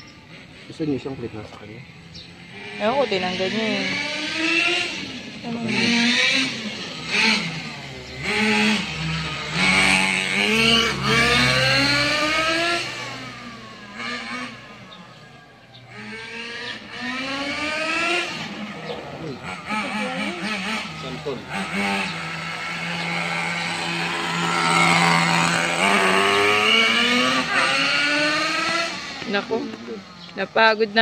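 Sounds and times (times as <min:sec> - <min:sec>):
nitro engine revving: 0:00.0 - 0:31.0.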